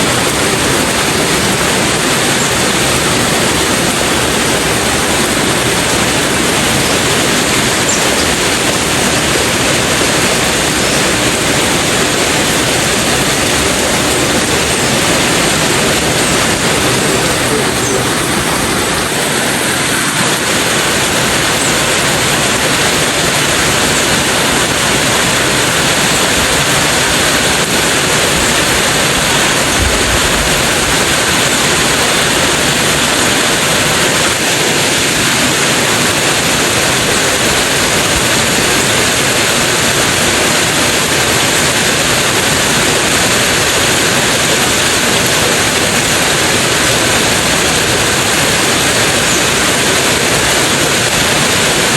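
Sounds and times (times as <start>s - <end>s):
heavy rain hissing: 0.0s - 51.9s.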